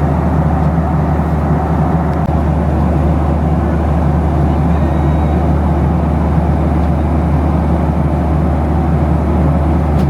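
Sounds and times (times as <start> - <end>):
aircraft cabin engine drone: 0.0 - 10.0.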